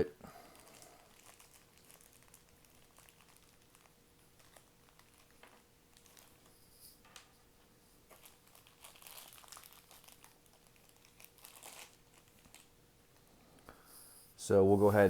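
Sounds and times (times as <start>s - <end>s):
packaging rustling and crinkling: 0.4s - 13.3s.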